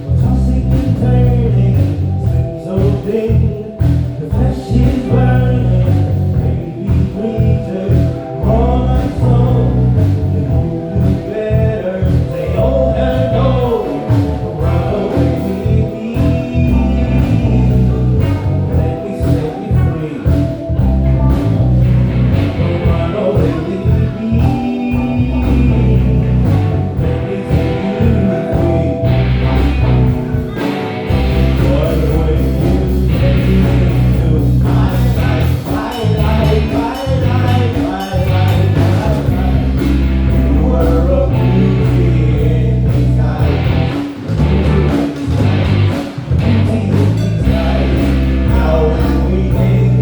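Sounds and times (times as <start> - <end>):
drums: 0.0 - 50.0
electric bass: 0.0 - 50.0
live soul band playing: 0.0 - 50.0
wavering lead melody: 0.0 - 50.0.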